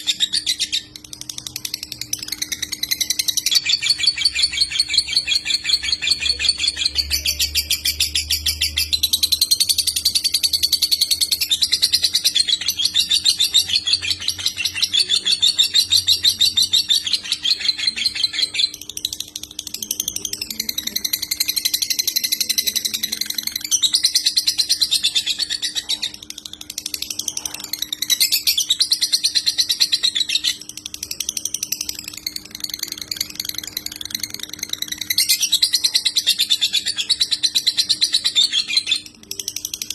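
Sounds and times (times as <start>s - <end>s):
faint steady hum: 0.0s - 39.9s
lovebird chattering song: 0.0s - 39.9s.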